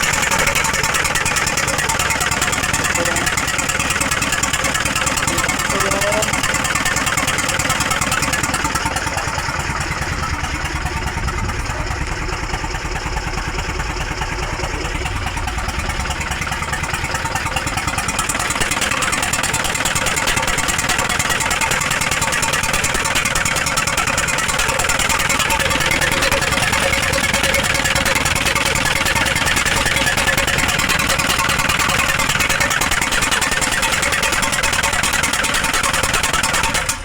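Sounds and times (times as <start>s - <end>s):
diesel engine idling with misfire: 0.0s - 37.0s.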